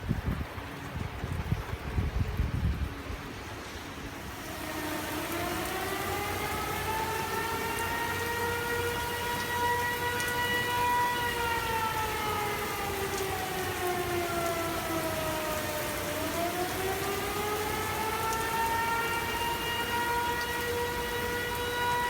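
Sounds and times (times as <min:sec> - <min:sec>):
warning siren: 0:03.4 - 0:22.0.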